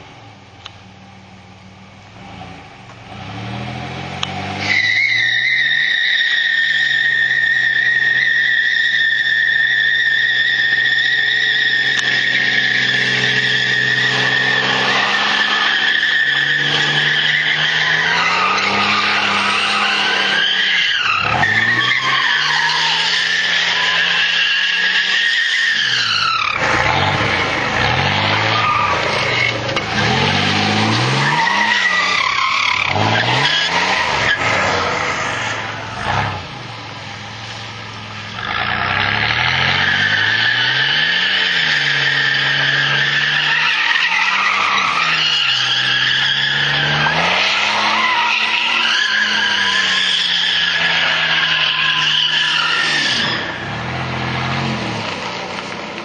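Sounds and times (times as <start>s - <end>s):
car engine revving: 2.0s - 56.0s
tyre squeal: 4.6s - 36.5s, 38.3s - 53.8s.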